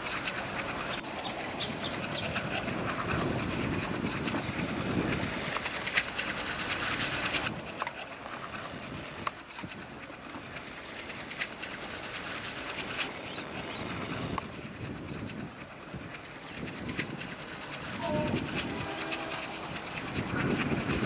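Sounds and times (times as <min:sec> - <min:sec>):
distant diesel train rolling: 0:00.0 - 0:21.0.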